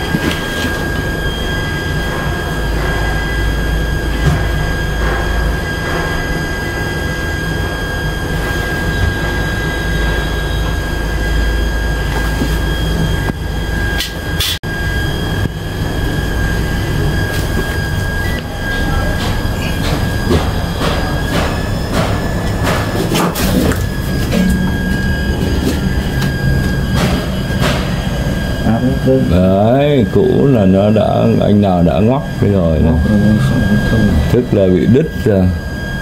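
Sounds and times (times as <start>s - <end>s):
high steady whine: 0.0s - 36.0s
low machine hum: 0.0s - 36.0s.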